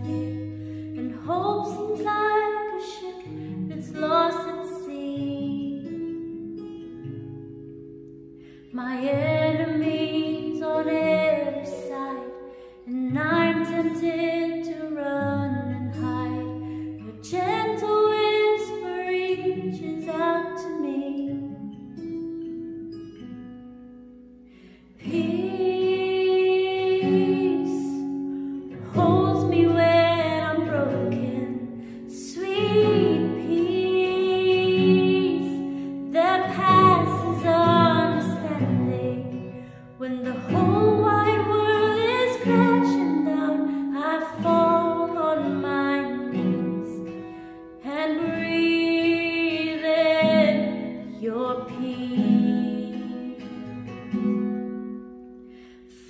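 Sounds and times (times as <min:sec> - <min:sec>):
woman singing: 0:00.0 - 0:06.4, 0:08.7 - 0:21.9, 0:24.9 - 0:54.3
guitar accompaniment: 0:00.0 - 0:56.0.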